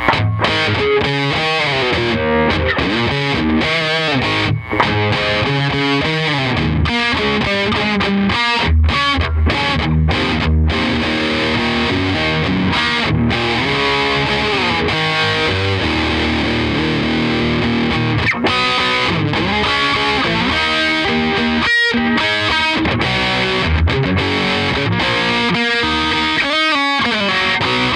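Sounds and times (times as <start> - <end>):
distorted electric guitar: 0.0 - 27.9.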